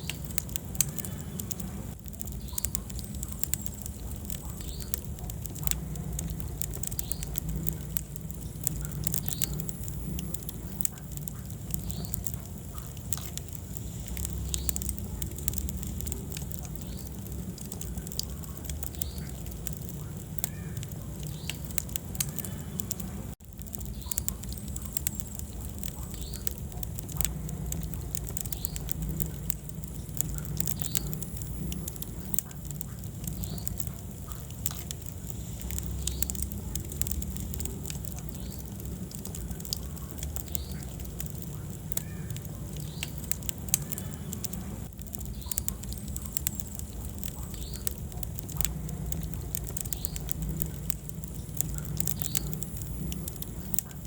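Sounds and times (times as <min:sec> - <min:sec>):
fire crackles and pops: 0:00.0 - 0:54.0
low rumble of flames: 0:00.0 - 0:54.0.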